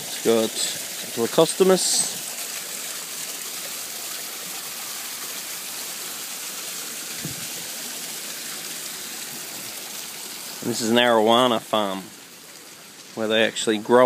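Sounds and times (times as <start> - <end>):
waterfall rushing into pond: 0.0 - 14.0.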